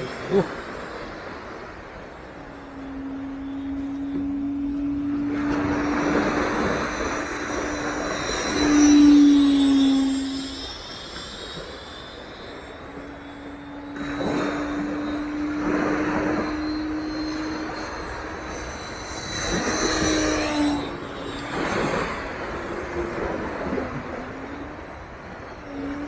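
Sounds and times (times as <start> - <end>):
model jet fan whining: 0.0 - 26.0.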